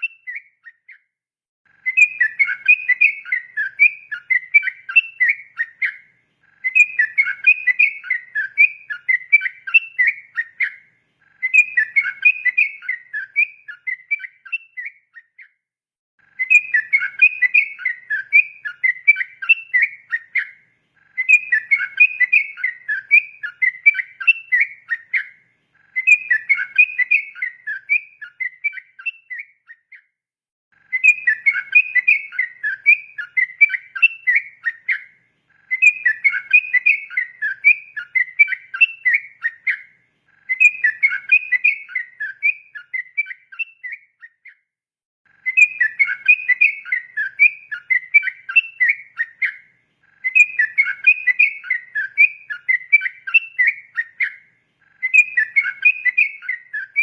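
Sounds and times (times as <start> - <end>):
bird singing bubbly song: 0.0 - 1.1, 1.7 - 15.6, 16.2 - 30.1, 30.8 - 44.7, 45.3 - 57.0.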